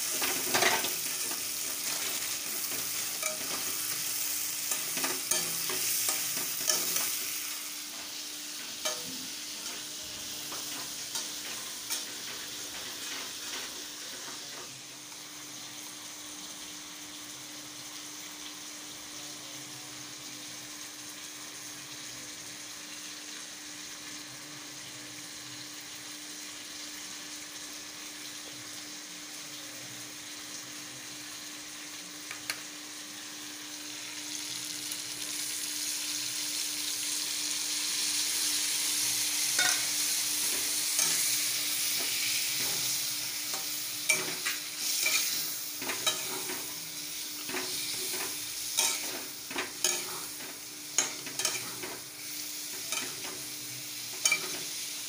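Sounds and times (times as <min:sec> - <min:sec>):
curry sizzling in pan: 0:00.0 - 0:55.0.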